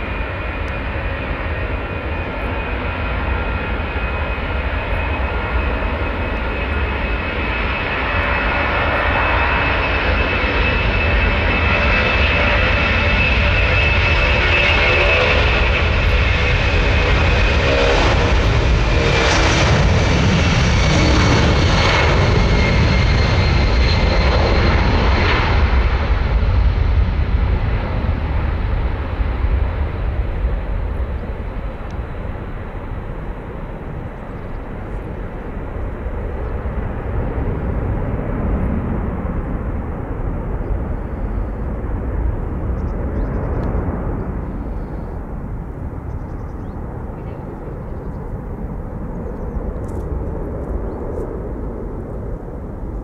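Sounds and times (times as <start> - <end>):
jet engines rumbling and whining: 0.0 - 53.0.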